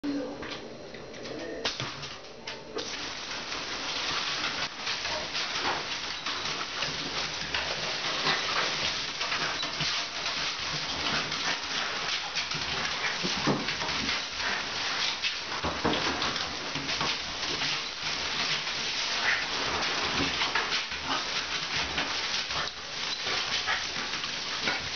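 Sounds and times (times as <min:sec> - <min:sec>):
shower spraying water: 0:02.8 - 0:24.9.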